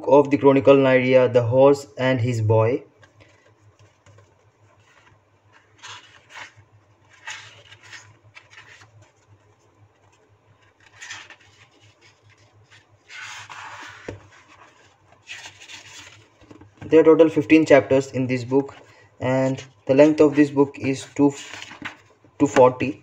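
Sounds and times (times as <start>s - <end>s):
book pages rustling: 3.0s - 17.4s, 18.0s - 23.0s.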